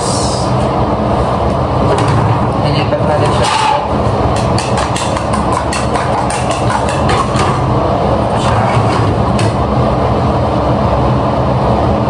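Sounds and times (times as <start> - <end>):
loud mechanical hum: 0.0 - 12.0.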